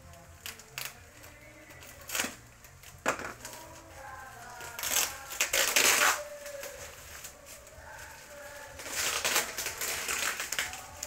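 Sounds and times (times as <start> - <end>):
paper and tape tearing: 0.4 - 7.6, 8.3 - 11.0.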